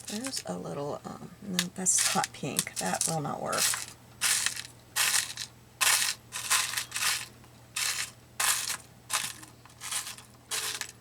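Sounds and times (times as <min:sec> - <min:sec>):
metal brads rattling in a container: 0:00.0 - 0:00.5, 0:02.0 - 0:11.0.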